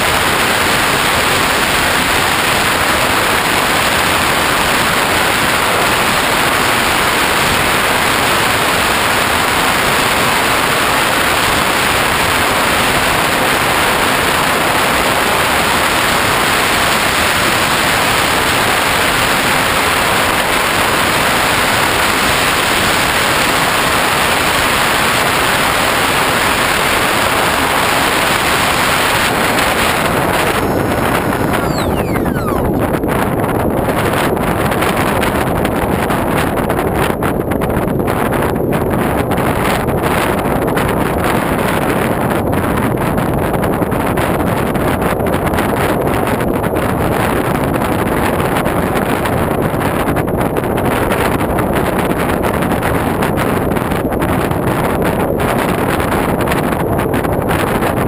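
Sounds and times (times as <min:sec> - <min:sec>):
wind rush over microphone: 0:00.0 - 0:58.0.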